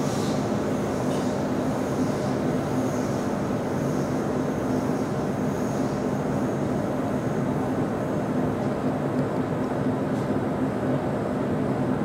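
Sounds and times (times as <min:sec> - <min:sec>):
low hum of stationary train: 0:00.0 - 0:12.0.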